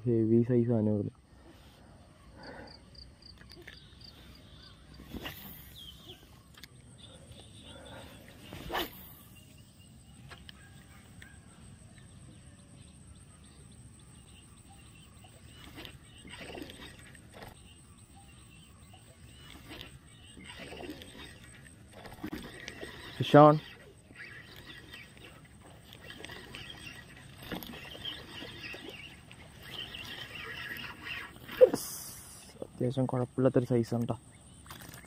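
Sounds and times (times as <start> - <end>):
birds calling: 1.0 - 35.0.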